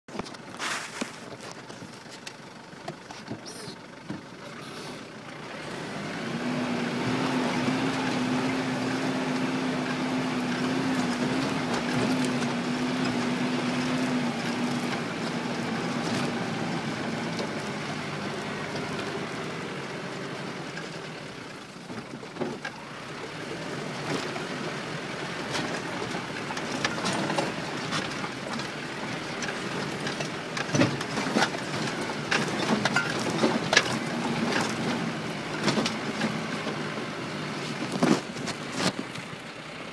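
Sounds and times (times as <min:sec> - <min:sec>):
engine pulling under load: 0:00.1 - 0:39.9.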